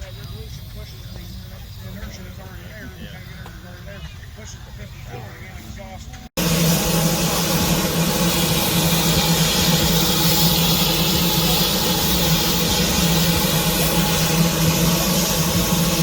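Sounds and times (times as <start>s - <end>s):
steam engine hissing: 0.0s - 16.0s.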